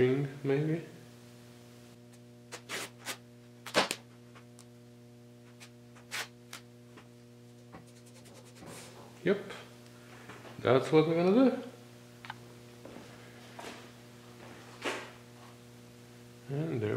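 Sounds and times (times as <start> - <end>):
electrical hum: 0.0 - 16.9.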